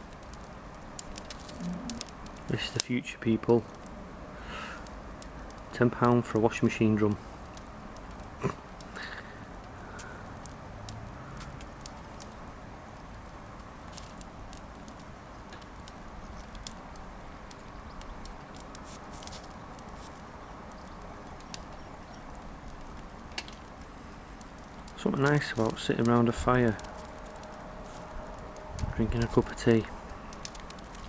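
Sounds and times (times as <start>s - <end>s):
logs burning with crackles: 0.0s - 31.0s.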